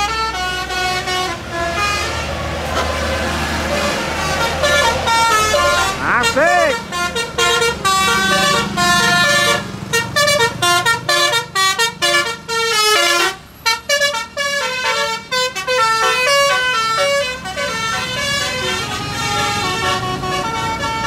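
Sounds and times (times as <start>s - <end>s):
bus engine running: 0.0s - 21.0s
bus musical horn playing a tune: 0.0s - 21.0s.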